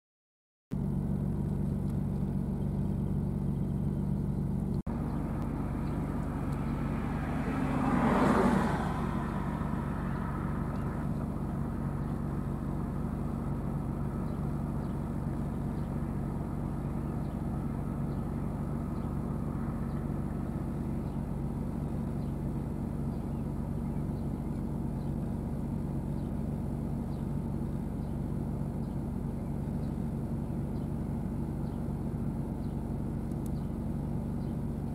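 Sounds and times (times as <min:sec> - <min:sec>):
tractor diesel engine under load: 0:00.7 - 0:34.9.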